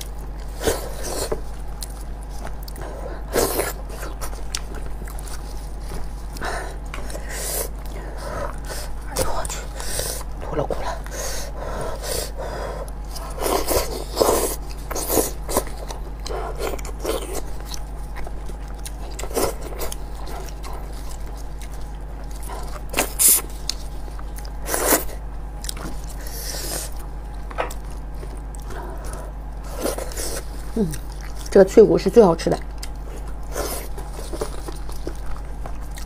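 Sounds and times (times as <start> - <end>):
wet squelches and chewing: 0.0 - 31.7, 32.4 - 36.0.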